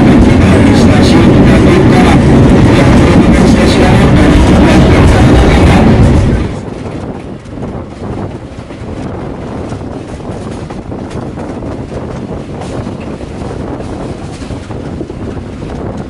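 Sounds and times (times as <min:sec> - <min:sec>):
train wheel and wind noise: 0:00.0 - 0:16.0
wind on microphone: 0:00.0 - 0:16.0.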